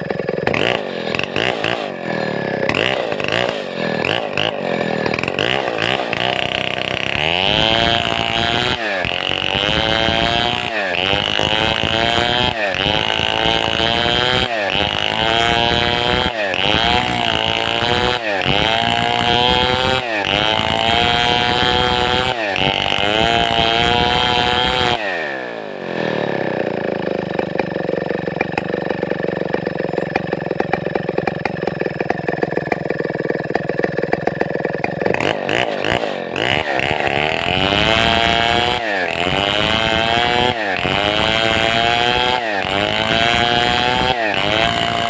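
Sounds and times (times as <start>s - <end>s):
chainsaw revving and idling: 0.0s - 45.0s.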